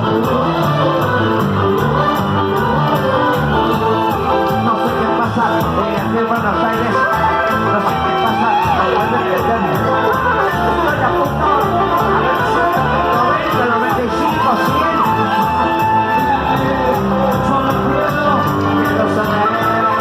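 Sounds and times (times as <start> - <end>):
latin music with guitar: 0.0 - 20.0
person singing: 0.0 - 20.0.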